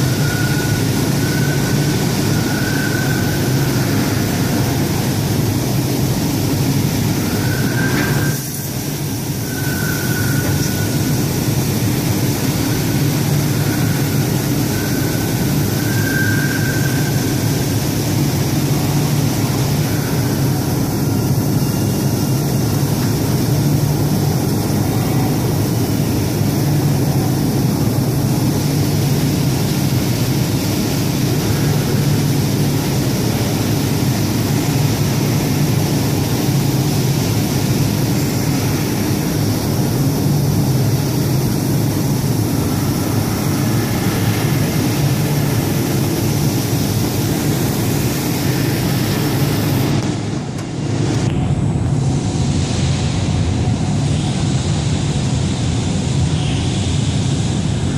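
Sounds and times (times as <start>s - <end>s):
laser cutter hiss: 0.0s - 57.9s.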